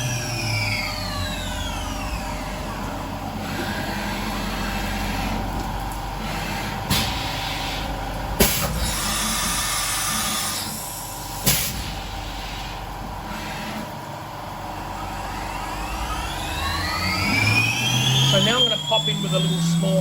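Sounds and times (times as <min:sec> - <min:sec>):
milling machine whine: 0:00.0 - 0:20.0.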